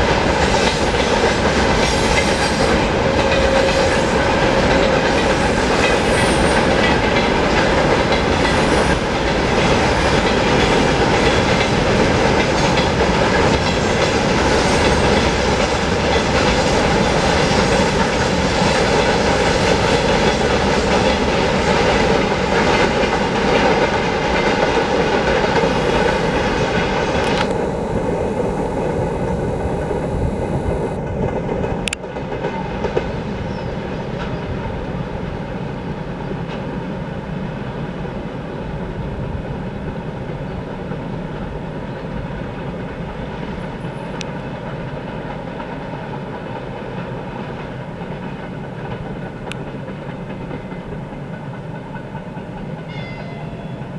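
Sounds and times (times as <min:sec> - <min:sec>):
faint ringing from train wheels: 0:00.0 - 0:31.0, 0:31.6 - 0:53.9.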